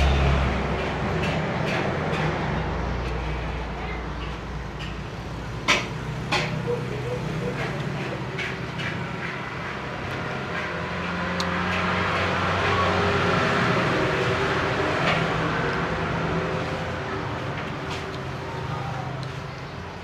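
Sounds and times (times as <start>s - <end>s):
vehicle engine passing by: 0.0s - 19.8s.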